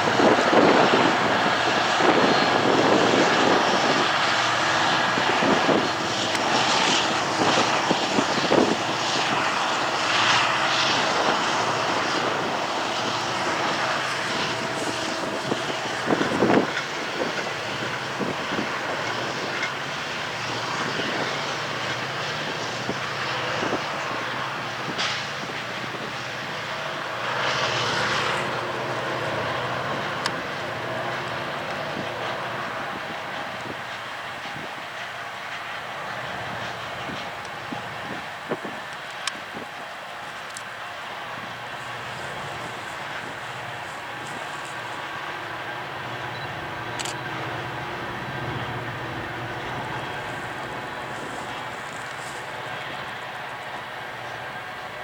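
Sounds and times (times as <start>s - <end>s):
diesel locomotive engine droning: 0.0s - 55.0s.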